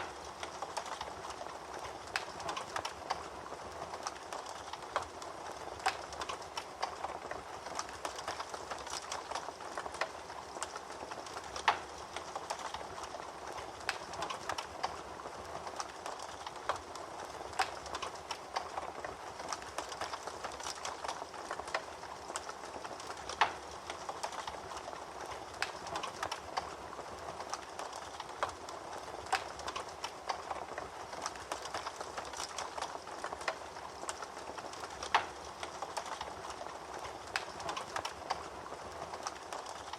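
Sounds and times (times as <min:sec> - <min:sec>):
fire crackling in a fireplace: 0:00.0 - 0:39.9.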